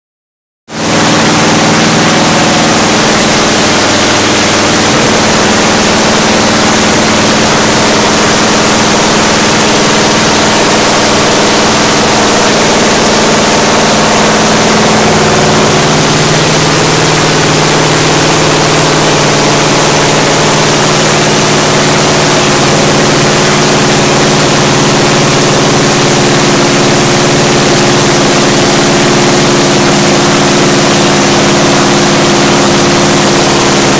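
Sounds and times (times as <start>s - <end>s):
engine running loudly: 0.7s - 33.9s.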